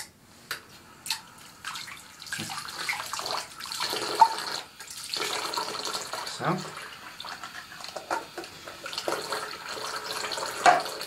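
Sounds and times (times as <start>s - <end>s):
water running and splashing: 1.4s - 11.0s.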